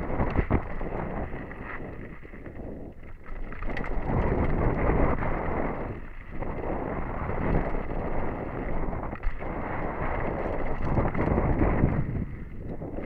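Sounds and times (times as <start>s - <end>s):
bike rattling over bumps: 0.0s - 13.0s
wind rushing over microphone: 0.0s - 13.0s.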